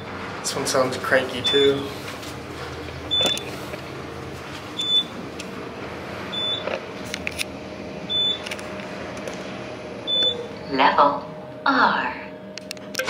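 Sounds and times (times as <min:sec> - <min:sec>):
elevator humming: 0:00.0 - 0:13.0.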